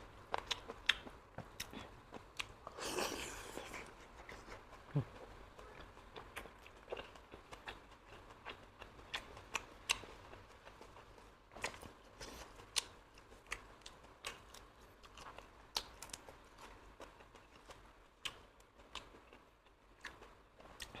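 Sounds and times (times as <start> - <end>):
person chewing with wet smacks: 0.0 - 21.0.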